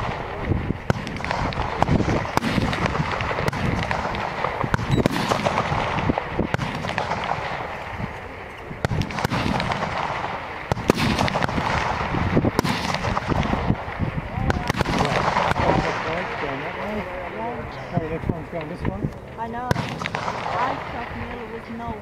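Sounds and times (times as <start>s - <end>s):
rifle shots cracking: 0.0s - 17.5s, 19.3s - 21.8s.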